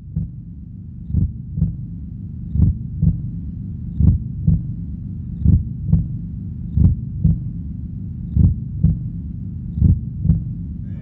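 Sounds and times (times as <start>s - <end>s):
heartbeat thumps: 0.0s - 10.8s
low steady hum: 0.0s - 11.0s.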